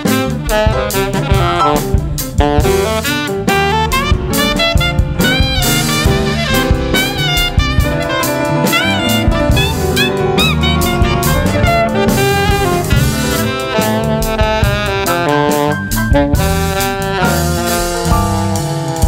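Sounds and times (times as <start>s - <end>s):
alto saxophone lead line: 0.0s - 19.0s
bass: 0.0s - 19.0s
drum kit: 0.0s - 19.0s.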